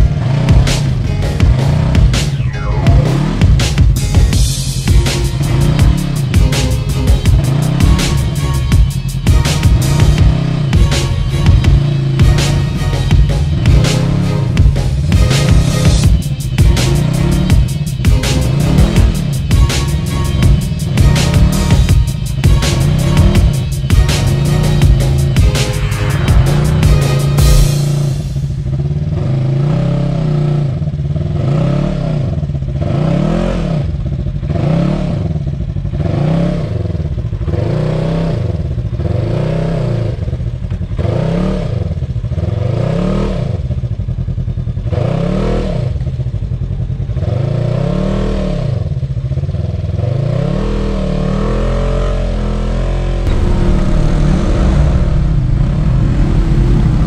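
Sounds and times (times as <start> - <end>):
engine revving under load: 0.0 - 43.9, 49.9 - 57.0
engine running steadily: 0.0 - 50.6, 53.1 - 57.0.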